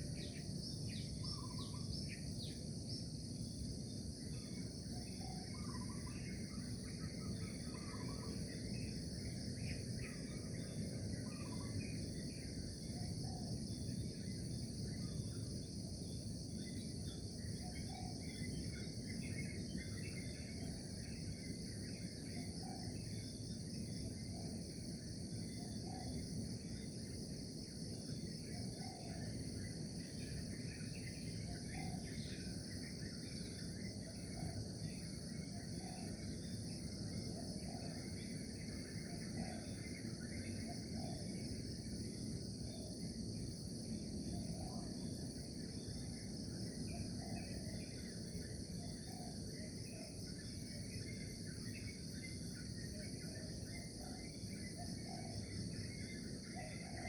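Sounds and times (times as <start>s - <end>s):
insects chirping: 0.0s - 57.0s
low background hiss: 0.0s - 57.0s.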